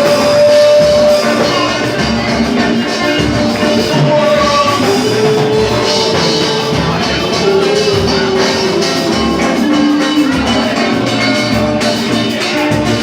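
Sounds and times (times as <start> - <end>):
person singing long notes: 0.0 - 12.9
drums steady beat: 0.0 - 13.0
live band playing: 0.0 - 13.0.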